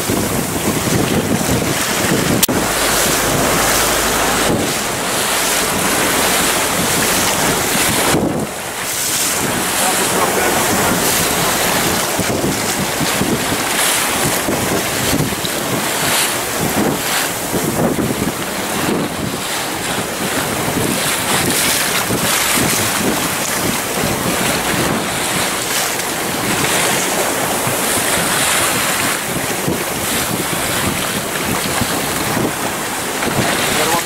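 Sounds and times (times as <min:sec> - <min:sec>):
sea water rushing past boat: 0:00.0 - 0:34.0
wind buffeting microphone: 0:00.0 - 0:34.0.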